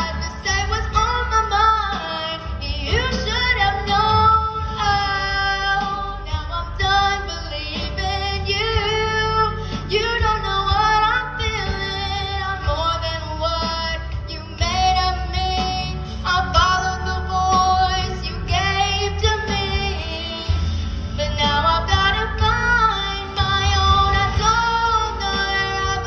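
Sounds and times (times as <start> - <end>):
girl singing a slow ballad: 0.0 - 26.0.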